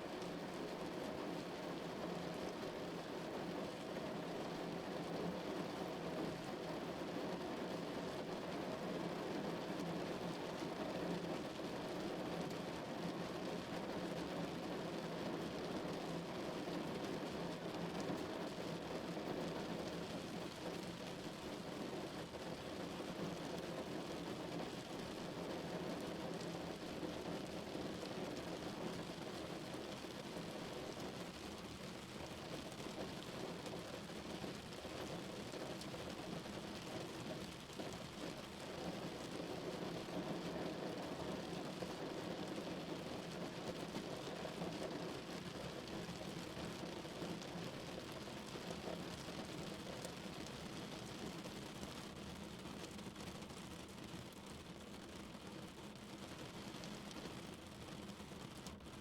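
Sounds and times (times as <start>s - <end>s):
rain drumming on car roof: 0.1s - 59.0s.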